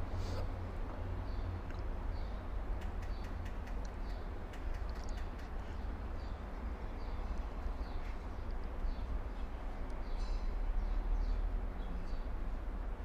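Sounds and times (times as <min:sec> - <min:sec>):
small birds chirping: 0:01.2 - 0:12.4.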